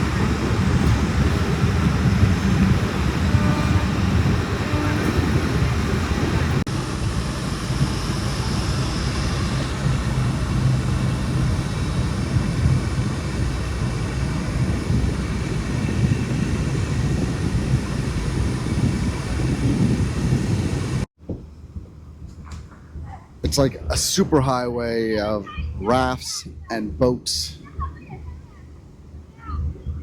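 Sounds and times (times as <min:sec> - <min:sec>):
boat engine rumbling: 0:00.0 - 0:30.0.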